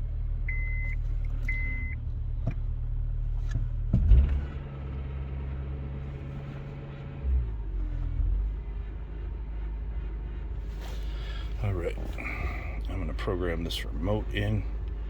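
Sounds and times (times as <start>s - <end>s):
car running rumble: 0.0s - 15.0s.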